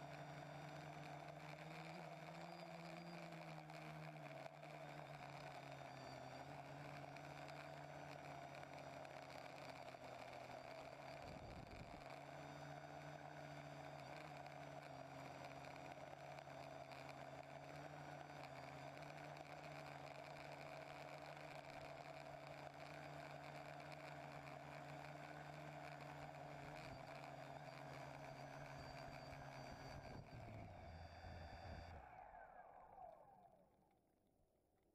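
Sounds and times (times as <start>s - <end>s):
drone motors whining: 0.0s - 33.7s.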